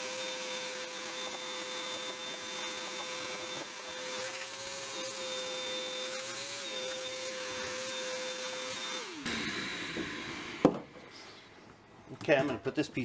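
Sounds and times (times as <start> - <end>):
vacuum cleaner whine: 0.0 - 11.5.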